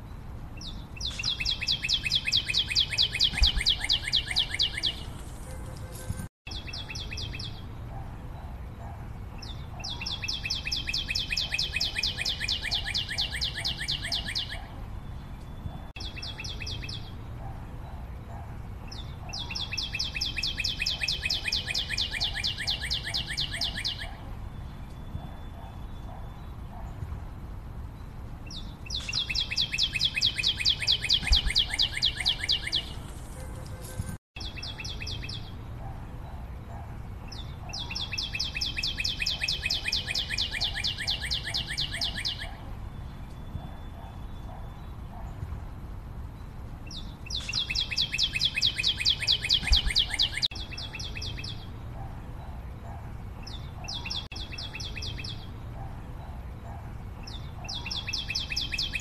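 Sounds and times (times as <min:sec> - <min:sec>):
bird chirping in rapid trills: 0:00.0 - 0:27.0, 0:27.9 - 0:45.3, 0:46.4 - 0:59.0.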